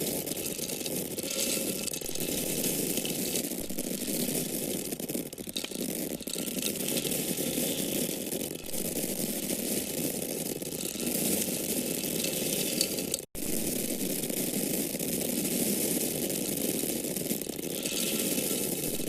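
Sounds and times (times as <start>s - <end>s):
corn kernels pouring and pattering: 0.0s - 19.0s.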